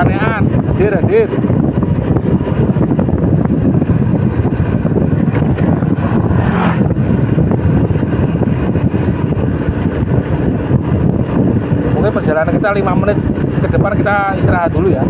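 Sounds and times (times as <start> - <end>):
motorcycle cruising: 0.0 - 15.0
wind rushing over microphone: 0.0 - 15.0.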